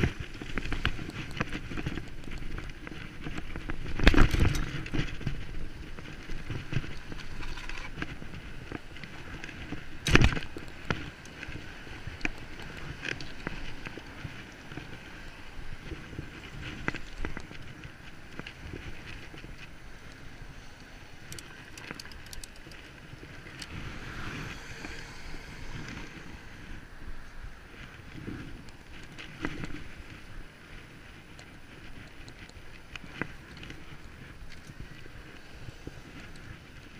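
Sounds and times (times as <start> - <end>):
bicycle tyre and frame rattle: 0.0 - 36.9
wind on microphone: 0.0 - 36.9.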